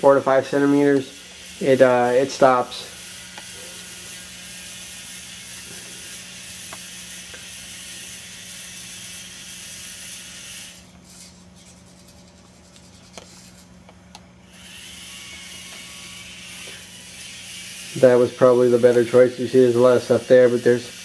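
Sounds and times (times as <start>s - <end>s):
small motors whirring: 0.0s - 21.0s.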